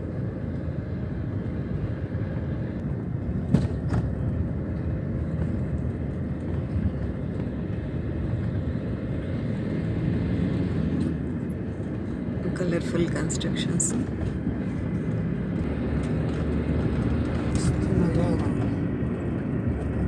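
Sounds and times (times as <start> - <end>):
vehicle engine and tyres rumbling: 0.0 - 20.0.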